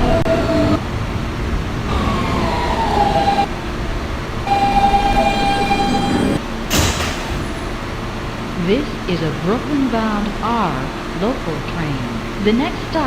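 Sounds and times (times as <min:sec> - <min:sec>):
subway train electric whine: 0:00.0 - 0:13.0.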